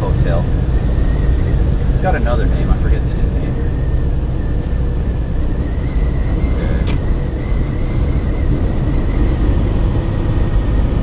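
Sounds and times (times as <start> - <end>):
truck cab road and engine noise: 0.0 - 11.0.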